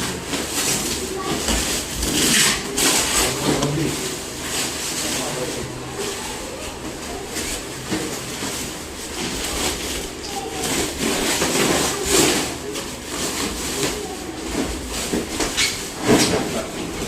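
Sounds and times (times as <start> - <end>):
packing material rustling: 0.0 - 17.0.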